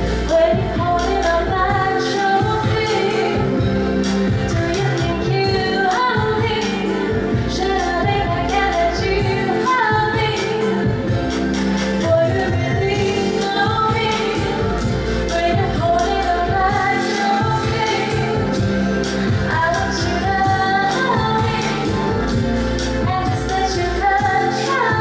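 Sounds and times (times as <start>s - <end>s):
band playing pop music: 0.0s - 25.0s
woman singing: 0.0s - 25.0s.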